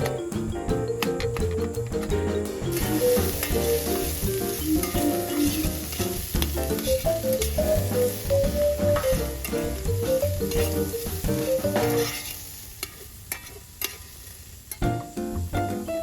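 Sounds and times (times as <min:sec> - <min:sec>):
instrumental background music: 0:00.0 - 0:12.3, 0:14.8 - 0:16.0
food sizzling: 0:01.7 - 0:16.0.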